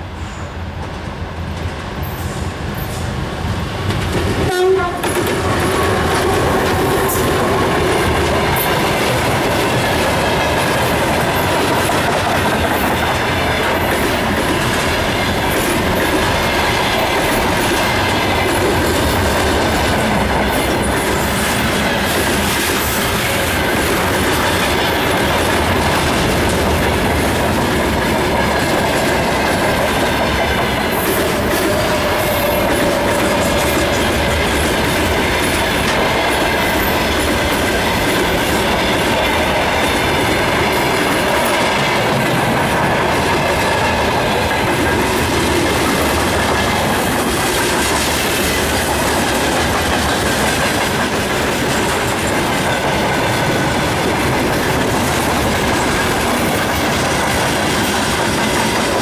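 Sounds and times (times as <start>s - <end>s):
diesel locomotive passing: 0.0s - 59.0s
train wheels clattering over rail joints: 3.8s - 59.0s.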